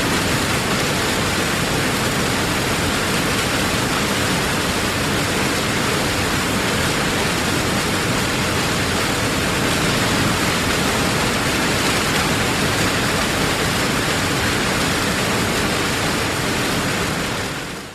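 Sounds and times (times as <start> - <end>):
heavy waterfall rushing: 0.0 - 17.9.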